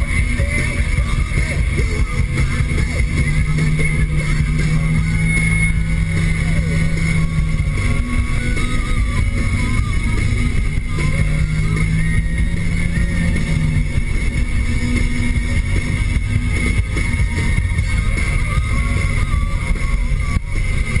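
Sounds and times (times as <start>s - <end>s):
car engine at high revs: 0.0s - 21.0s
low steady hum: 0.0s - 21.0s
road and wind noise: 0.0s - 21.0s
thin steady whine: 0.0s - 21.0s.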